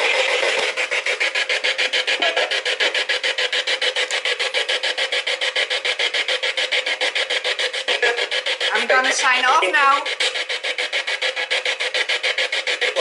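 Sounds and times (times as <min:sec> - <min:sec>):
pulsing radio static: 0:00.0 - 0:13.0.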